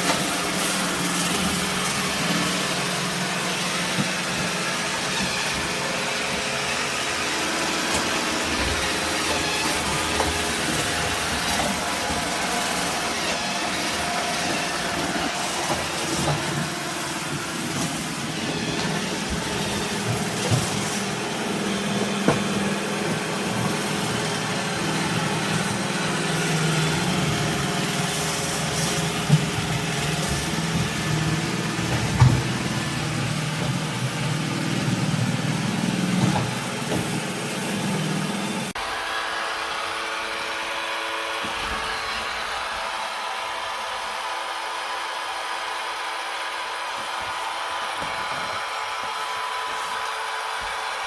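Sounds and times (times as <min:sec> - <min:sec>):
robot vacuum motor and brush hum: 0:00.0 - 0:51.0.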